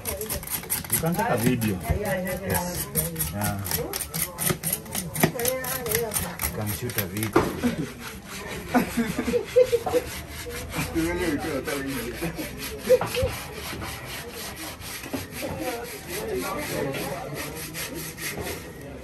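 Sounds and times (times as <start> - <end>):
knife scraping charred hide: 0.0 - 19.0.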